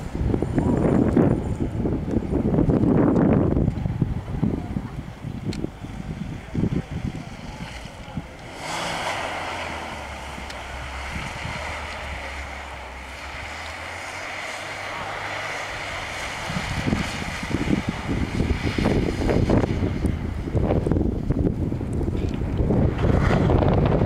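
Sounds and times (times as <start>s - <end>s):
distant car engine droning: 0.0s - 24.0s
wind buffeting microphone: 0.0s - 24.0s
tyres rushing through snow: 3.8s - 24.0s.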